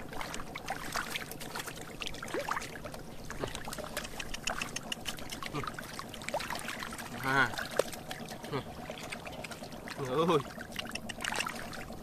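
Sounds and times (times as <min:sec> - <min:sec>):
water drips and plops: 0:00.0 - 0:12.0
water trickling and splashing: 0:00.0 - 0:12.0.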